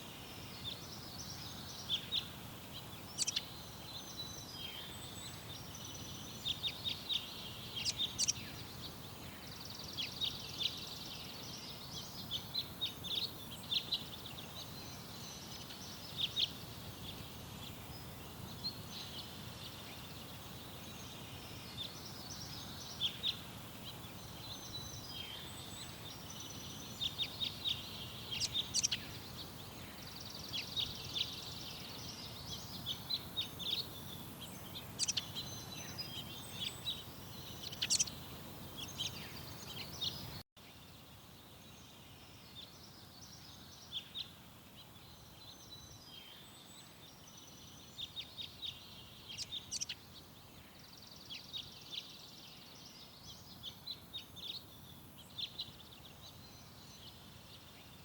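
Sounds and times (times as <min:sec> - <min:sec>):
birds singing and chirping: 0:00.0 - 0:40.4, 0:42.1 - 0:58.0
background hiss: 0:00.0 - 0:58.0.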